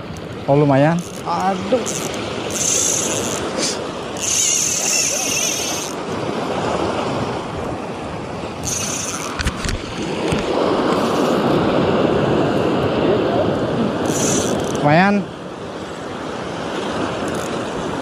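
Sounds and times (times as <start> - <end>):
sea waves washing on shore: 0.0 - 18.0
wind on microphone: 1.2 - 18.0.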